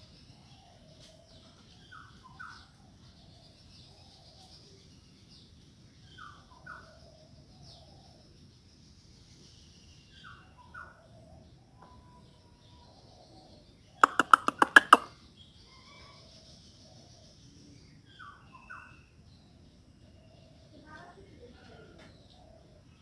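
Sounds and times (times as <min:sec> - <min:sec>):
faint high bird chirping: 0:00.0 - 0:23.0.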